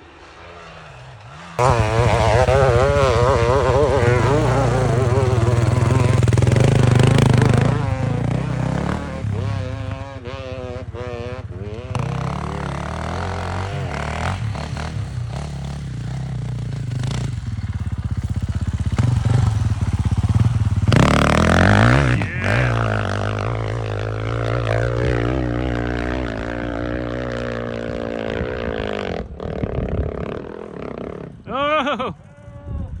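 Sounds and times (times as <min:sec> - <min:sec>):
dirt bike engine revving: 0:00.0 - 0:32.2.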